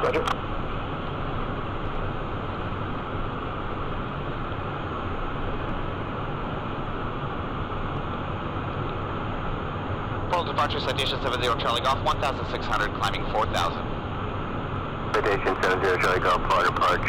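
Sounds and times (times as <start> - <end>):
jet engines humming: 0.0 - 17.0.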